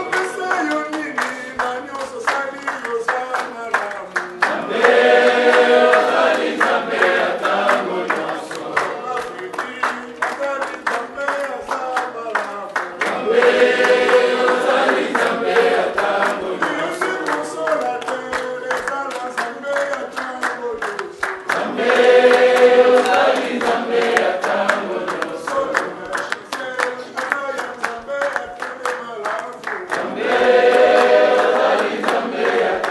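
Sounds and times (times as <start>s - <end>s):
congregation singing a hymn: 0.0s - 32.9s
hand-clapping: 0.0s - 32.9s.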